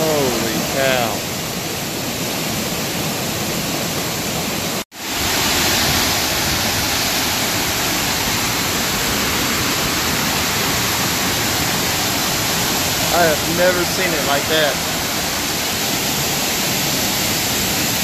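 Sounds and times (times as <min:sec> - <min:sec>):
creek running fast over rocks: 0:00.0 - 0:18.0
water pouring over dam spillway: 0:00.0 - 0:18.0.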